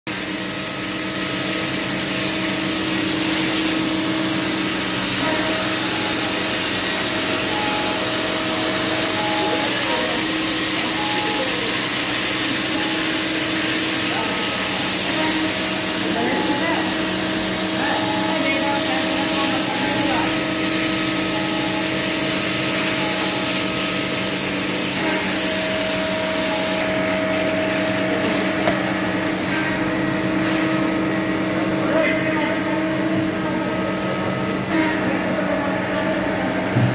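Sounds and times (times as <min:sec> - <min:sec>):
grinding machine motor hum: 0:00.1 - 0:36.9
grinding wheel hiss on metal: 0:00.1 - 0:36.9.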